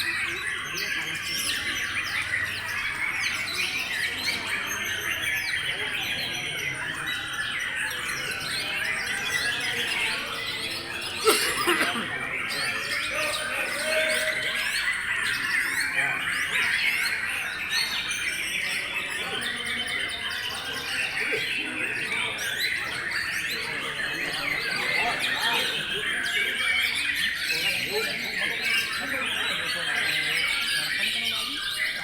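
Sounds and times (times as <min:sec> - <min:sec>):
birds singing chirps and whistles: 0:00.0 - 0:32.0.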